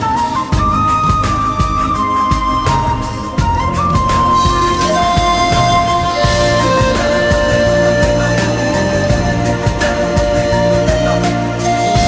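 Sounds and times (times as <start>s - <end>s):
drum and bass beat: 0.0s - 12.0s
pan flute melody: 0.0s - 12.0s.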